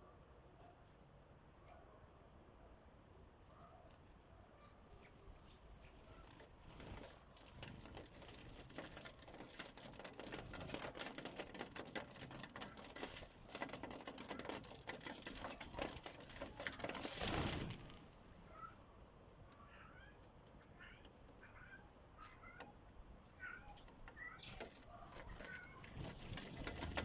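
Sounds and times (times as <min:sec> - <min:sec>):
birds pecking seed: 0:03.5 - 0:27.0.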